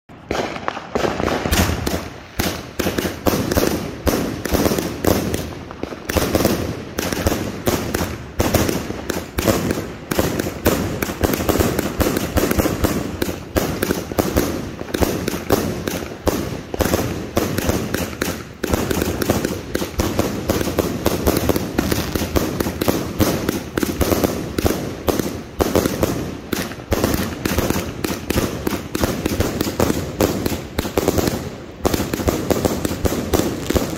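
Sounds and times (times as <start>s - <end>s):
fireworks crackling bursts: 0.1s - 33.9s.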